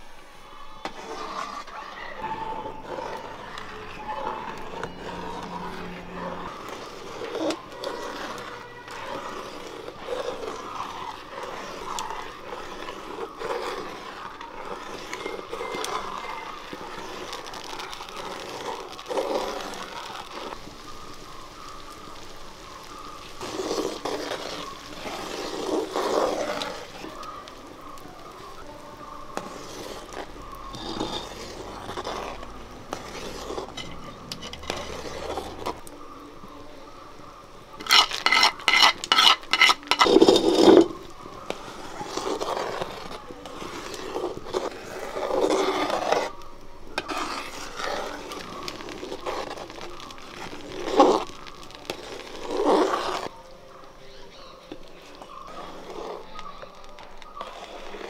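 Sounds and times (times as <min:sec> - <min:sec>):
spatula scraping metal pan: 0:00.0 - 0:36.7, 0:37.7 - 0:53.3, 0:54.1 - 0:58.0.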